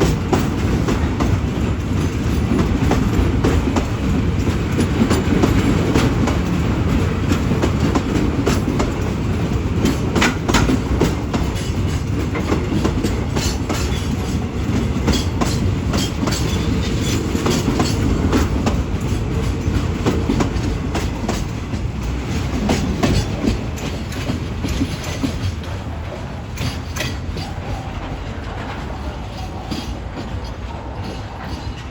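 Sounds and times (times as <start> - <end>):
freight train rumbling past: 0.0 - 31.9
wheels clacking over rail joints: 0.0 - 31.9.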